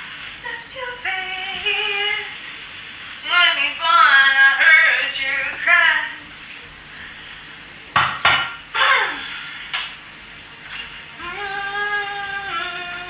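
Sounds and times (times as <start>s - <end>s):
steady sizzle: 0.0s - 11.4s.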